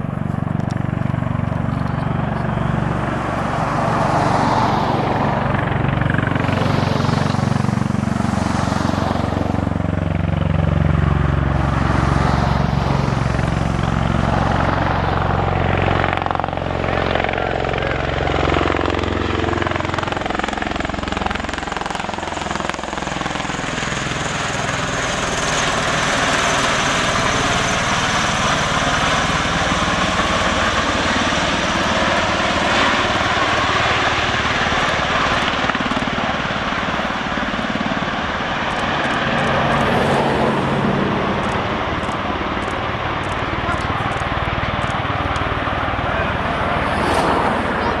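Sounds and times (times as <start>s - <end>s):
aircraft rotors whooshing drone: 0.0s - 48.0s.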